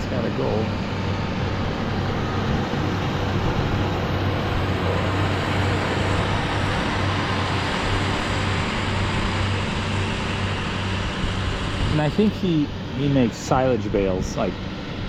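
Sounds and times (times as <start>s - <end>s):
tractor diesel engine running: 0.0s - 13.8s.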